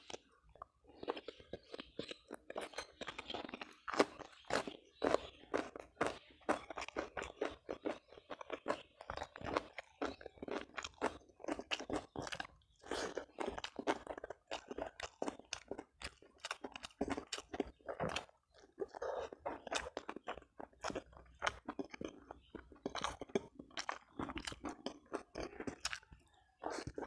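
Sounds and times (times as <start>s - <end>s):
chewing with crunches: 0.0s - 27.0s.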